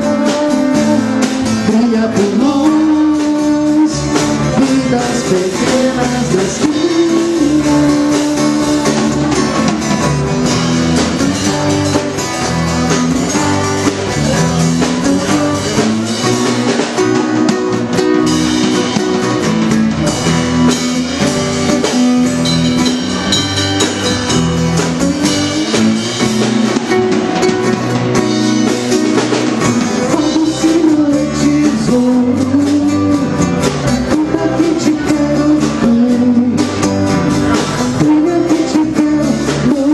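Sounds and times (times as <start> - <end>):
person singing: 0.0 - 10.2, 13.3 - 39.9
drum kit: 0.0 - 39.9
electric bass: 0.0 - 39.9.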